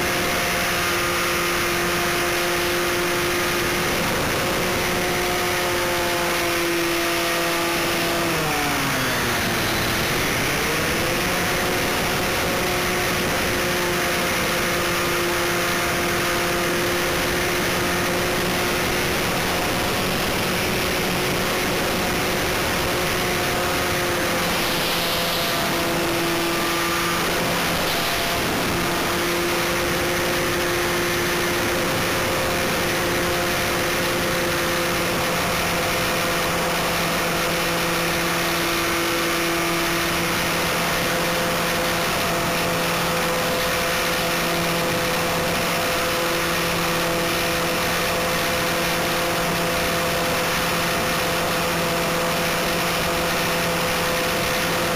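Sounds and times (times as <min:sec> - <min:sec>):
electric motor and propeller hum: 0:00.0 - 0:54.9.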